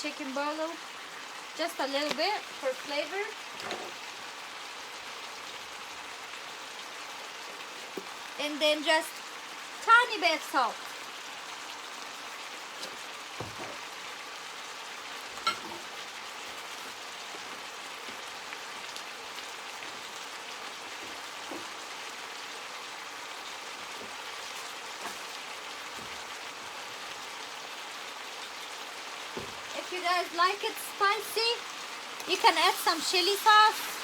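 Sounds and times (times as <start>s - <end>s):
chicken sizzling in a pan: 0.0s - 34.0s.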